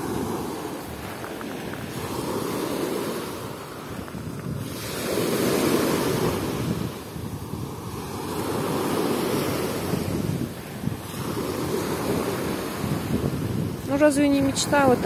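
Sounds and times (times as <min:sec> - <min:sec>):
small waves washing on shore: 0:00.0 - 0:15.0
wind rumbling on microphone: 0:00.0 - 0:15.0.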